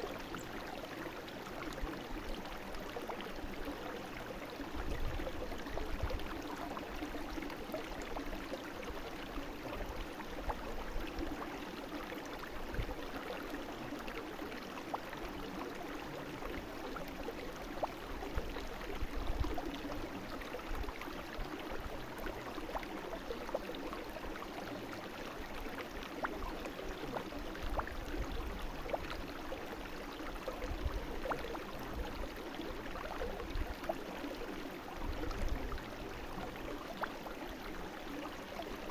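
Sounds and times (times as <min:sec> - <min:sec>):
brook water flowing: 0:00.0 - 0:38.9
water splashes and trickles: 0:00.0 - 0:38.9.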